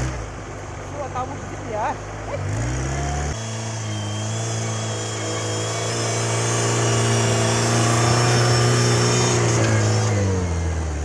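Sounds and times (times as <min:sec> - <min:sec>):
small tractor engine running: 0:00.0 - 0:11.0.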